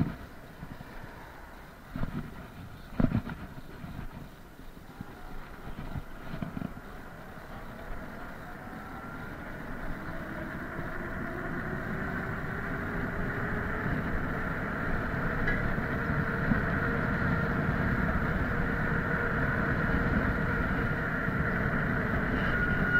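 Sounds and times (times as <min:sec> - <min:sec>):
tyre and wind rumble: 0:00.0 - 0:22.9.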